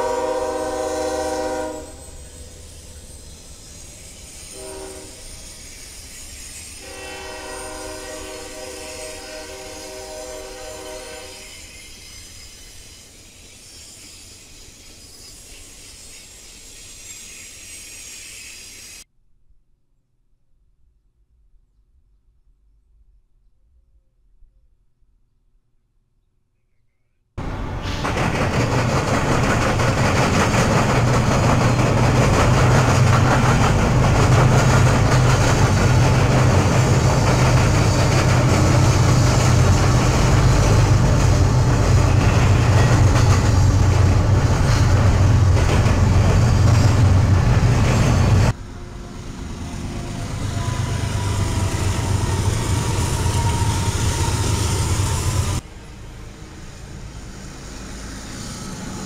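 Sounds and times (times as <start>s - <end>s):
train passing with low drone: 0.0s - 19.1s, 27.4s - 59.0s.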